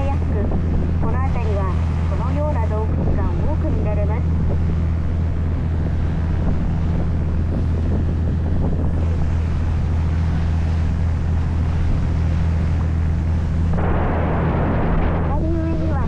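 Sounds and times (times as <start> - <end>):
boat engine droning: 0.0 - 16.0
water rushing along hull: 0.0 - 16.0
wind: 0.0 - 16.0.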